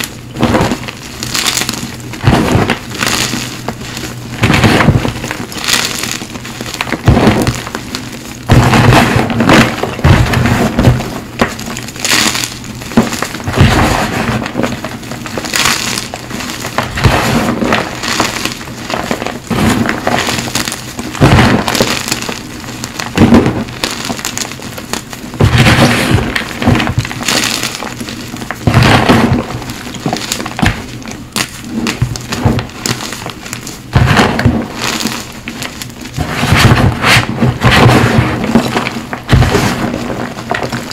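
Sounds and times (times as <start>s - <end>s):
hands crushing chalk blocks: 0.0s - 40.9s.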